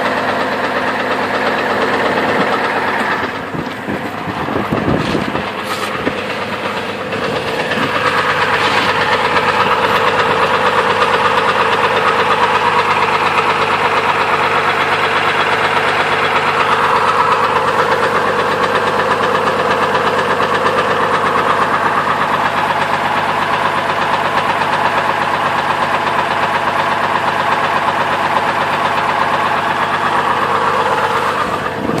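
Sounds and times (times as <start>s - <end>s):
engine running with rapid knock: 0.0s - 32.0s.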